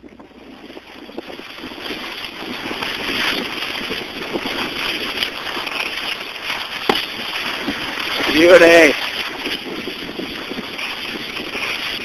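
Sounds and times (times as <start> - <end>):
skis scraping on snow: 0.0 - 12.0
wind on microphone: 0.0 - 12.0.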